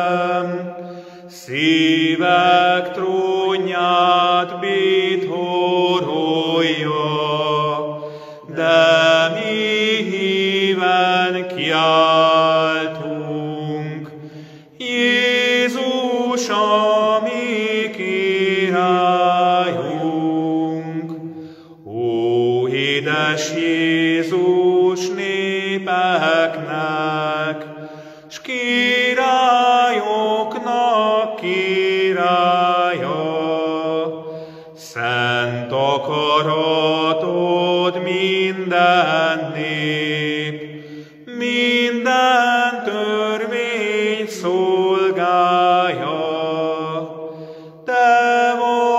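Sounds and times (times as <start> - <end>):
man singing a hymn: 0.0 - 7.9, 8.5 - 14.1, 14.8 - 21.2, 21.9 - 27.7, 28.3 - 34.2, 34.8 - 47.2, 47.8 - 48.9.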